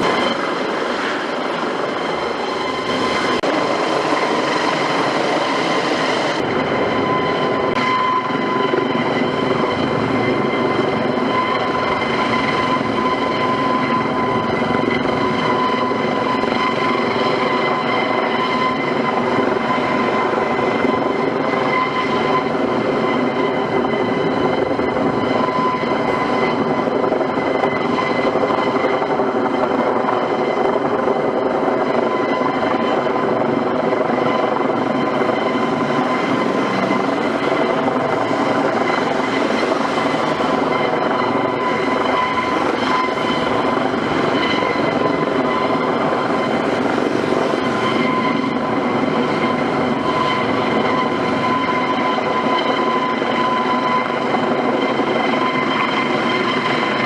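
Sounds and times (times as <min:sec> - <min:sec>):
helicopter rotor and engine noise: 0:00.0 - 0:57.0
helicopter turbine whine: 0:00.0 - 0:57.0.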